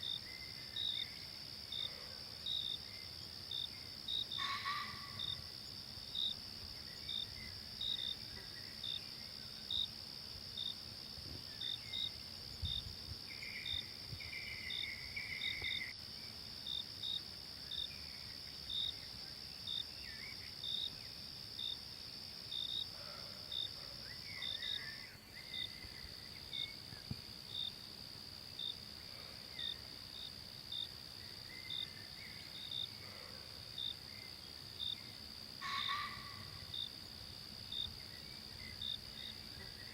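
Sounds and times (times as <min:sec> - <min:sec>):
insect chirps: 0:00.0 - 0:39.9
insects trilling: 0:00.0 - 0:39.9.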